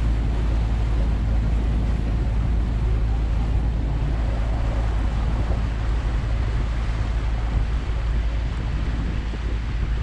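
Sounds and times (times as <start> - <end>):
motorboat engine rumble: 0.0 - 10.0
wind buffeting microphone: 0.0 - 10.0.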